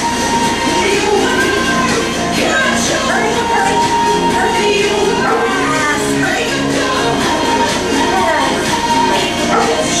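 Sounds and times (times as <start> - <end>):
song with singing: 0.0 - 10.0.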